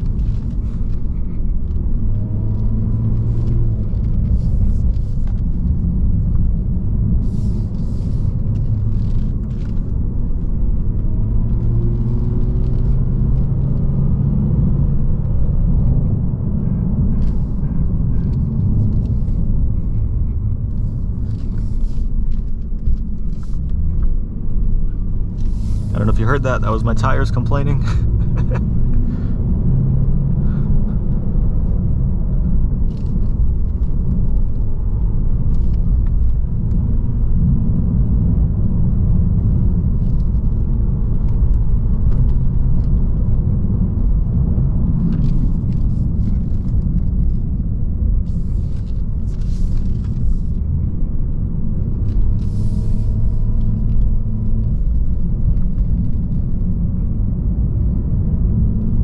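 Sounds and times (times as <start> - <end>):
car engine and road noise drone: 0.0 - 59.0.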